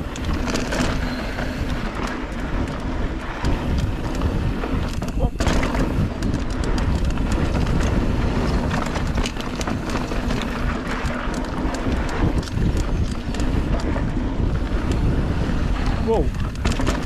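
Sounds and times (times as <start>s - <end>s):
bike rattles and clicks: 0.0s - 17.0s
bike tyres on packed dirt: 0.0s - 17.0s
wind rushing over microphone: 0.0s - 17.0s.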